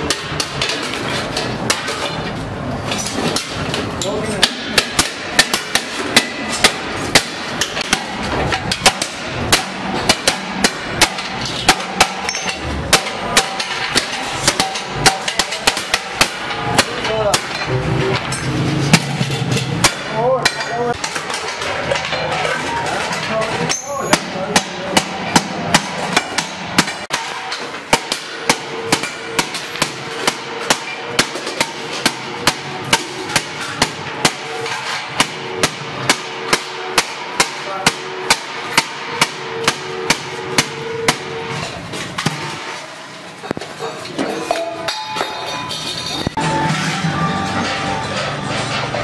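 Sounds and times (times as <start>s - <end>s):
hammer striking metal: 0.0s - 2.3s, 2.9s - 49.0s.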